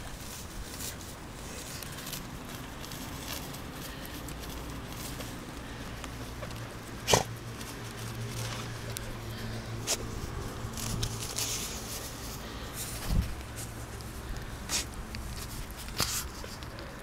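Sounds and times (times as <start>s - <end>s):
low steady hum: 0.0s - 17.0s
dog sniffing in grass: 0.1s - 17.0s.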